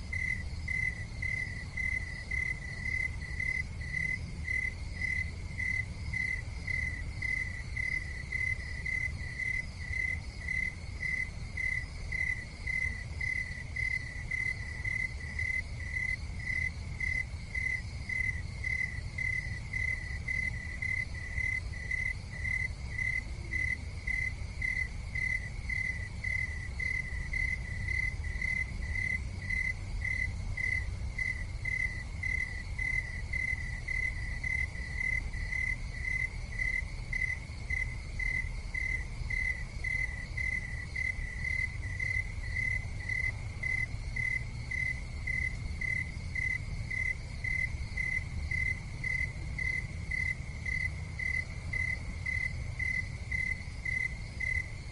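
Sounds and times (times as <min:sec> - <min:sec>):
insect chirping: 0:00.0 - 0:54.9.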